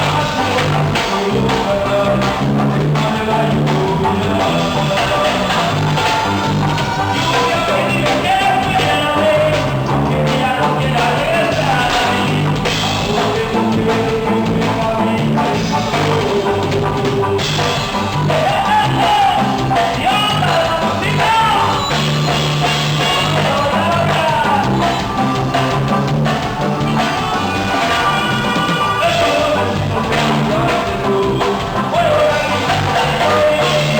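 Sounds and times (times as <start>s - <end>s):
band music with bass and drums: 0.0s - 33.9s.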